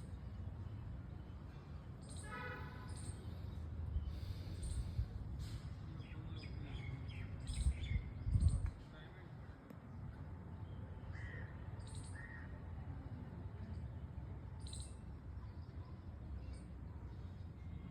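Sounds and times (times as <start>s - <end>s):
small birds chirping: 0.0s - 9.2s, 10.1s - 12.5s, 13.6s - 17.9s.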